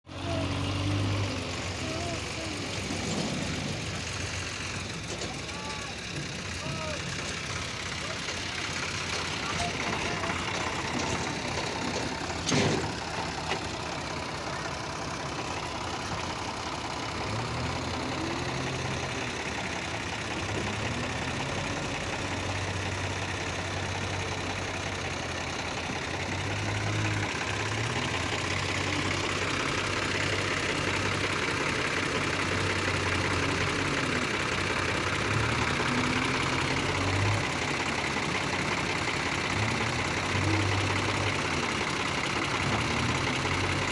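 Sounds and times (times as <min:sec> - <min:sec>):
backhoe diesel engine working: 0:00.0 - 0:43.9.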